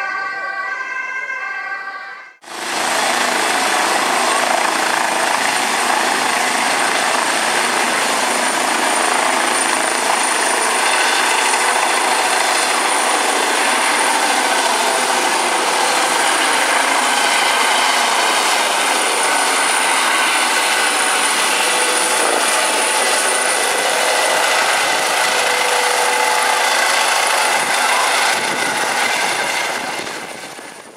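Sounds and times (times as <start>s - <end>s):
helicopter rotor and turbine: 2.4s - 30.9s
high turbine whine: 2.5s - 30.9s.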